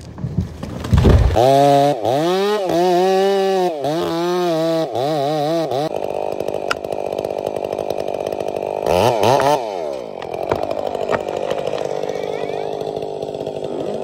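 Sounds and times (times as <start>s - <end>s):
chainsaw running and revving: 0.7s - 14.0s.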